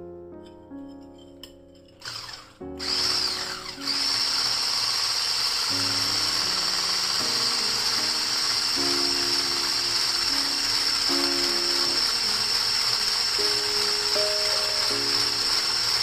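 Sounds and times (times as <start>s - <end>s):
soft background music: 0.0s - 5.1s, 5.7s - 16.0s
electric whisk whining: 2.0s - 16.0s.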